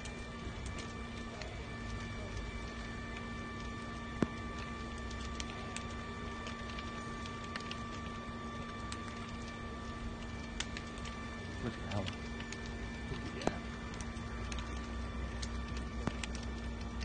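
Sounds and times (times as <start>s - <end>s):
fire crackling and popping: 0.0s - 17.0s
steady hum: 0.0s - 17.0s.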